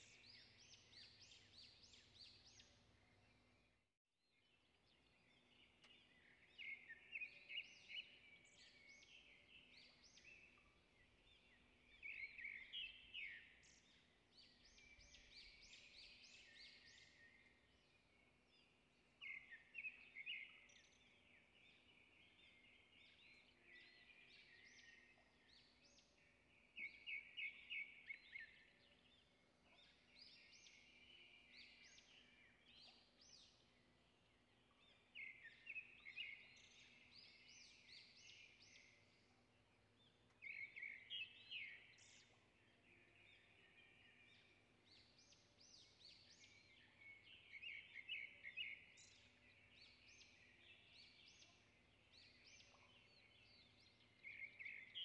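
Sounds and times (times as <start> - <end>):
faint bird chirping: 0.0 - 3.8, 4.4 - 55.0.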